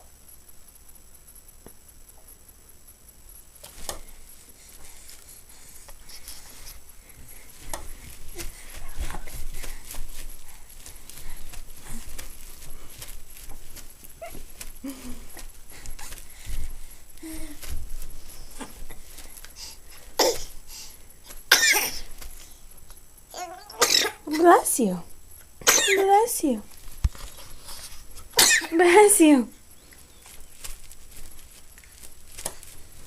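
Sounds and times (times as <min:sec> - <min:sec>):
baby kicking and squirming: 0:03.5 - 0:33.0.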